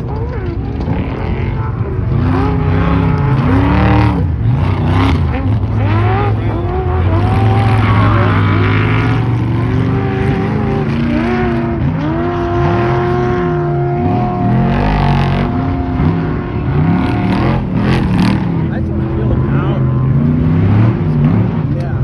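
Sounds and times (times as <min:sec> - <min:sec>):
racing truck engines revving: 0:00.0 - 0:22.0.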